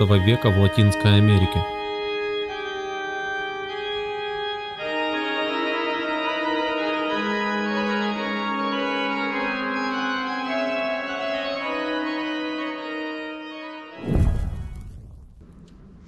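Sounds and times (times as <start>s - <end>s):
pipe organ chords: 0.0s - 14.0s.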